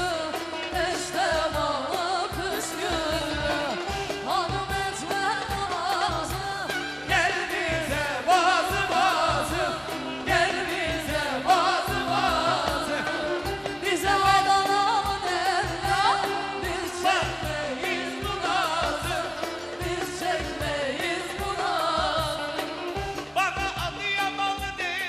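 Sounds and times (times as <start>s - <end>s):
pop-folk band with steady beat: 0.0s - 25.0s.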